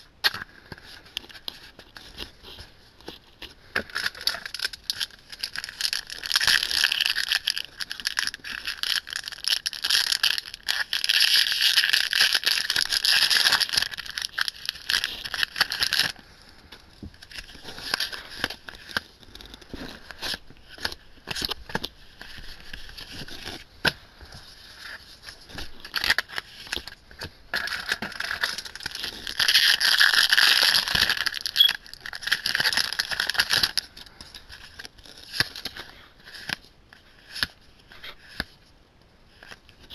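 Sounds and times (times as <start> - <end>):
foil wrappers crinkling and tearing: 0.2 - 38.5.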